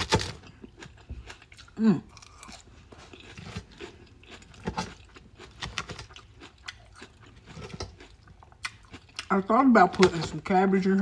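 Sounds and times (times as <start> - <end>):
person chewing crunchy salad: 0.0 - 10.5.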